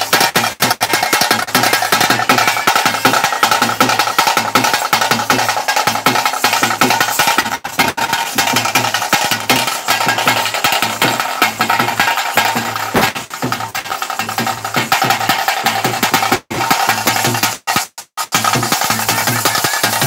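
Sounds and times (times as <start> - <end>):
fast dense drumming: 0.0 - 20.0.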